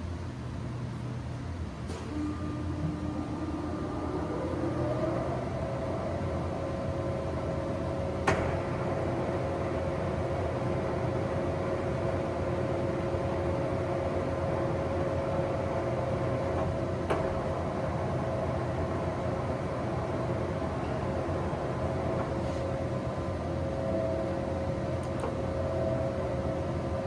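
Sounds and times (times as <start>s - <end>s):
lathe running with hum and whine: 2.2s - 27.0s.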